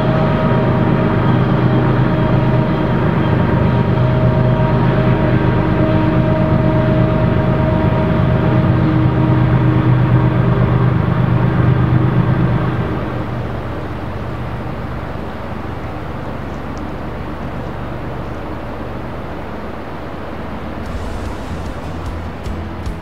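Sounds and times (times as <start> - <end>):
diesel locomotive engine drone: 0.0 - 23.0
train rumbling: 0.0 - 23.0.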